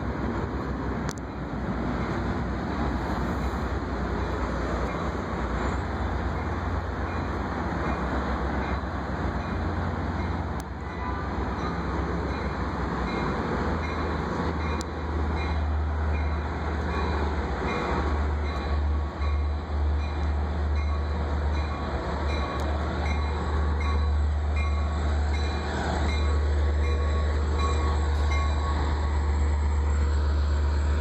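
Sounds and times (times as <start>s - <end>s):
train rumbling along tracks: 0.0s - 31.0s.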